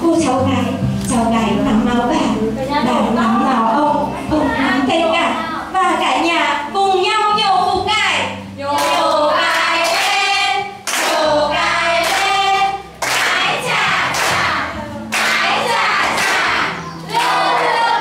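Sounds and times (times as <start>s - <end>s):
instrumental backing with bass: 0.0s - 18.0s.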